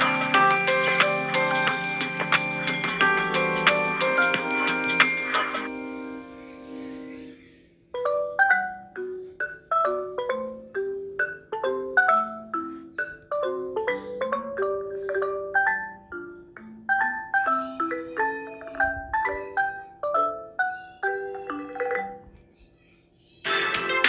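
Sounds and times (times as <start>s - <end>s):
marimba-like ringtone melody: 0.0s - 22.4s, 23.5s - 24.0s.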